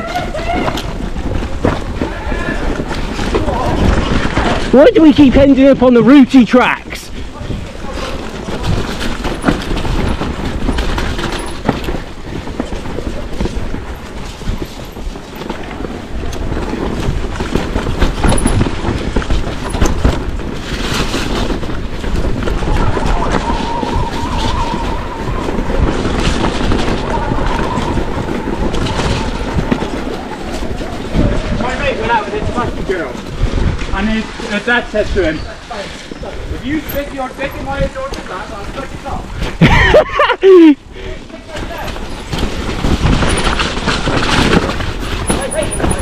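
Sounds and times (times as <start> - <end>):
bike rattling over roots: 0.0 - 46.0.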